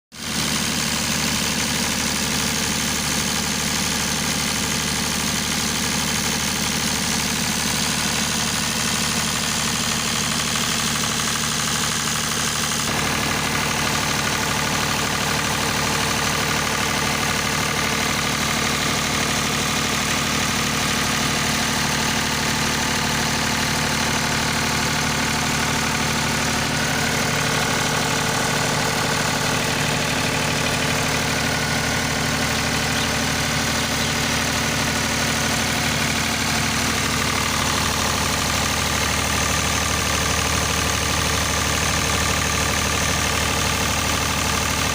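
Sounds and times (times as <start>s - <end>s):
diesel generator running: 0.1s - 44.9s.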